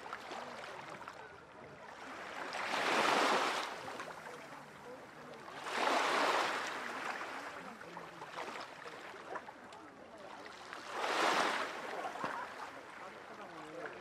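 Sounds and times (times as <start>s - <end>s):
faint crowd chatter: 0.0s - 14.0s
small waves washing ashore: 0.0s - 14.0s.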